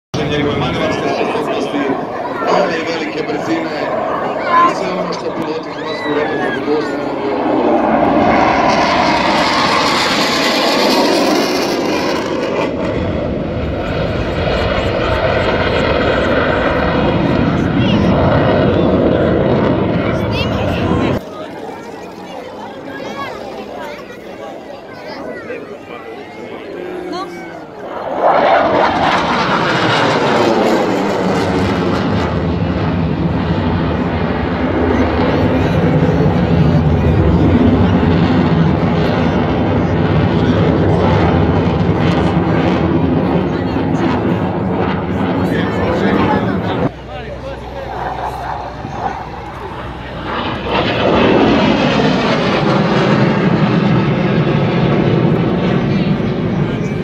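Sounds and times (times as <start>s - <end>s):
jet fighter flying past: 0.2s - 57.0s.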